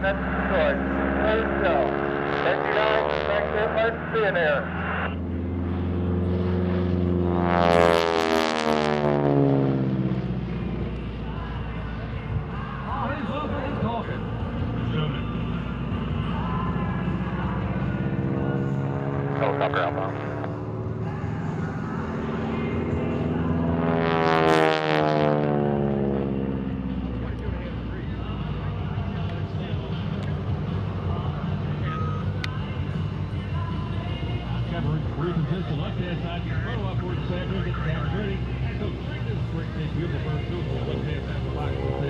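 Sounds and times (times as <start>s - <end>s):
propeller plane passing: 0.0s - 42.0s.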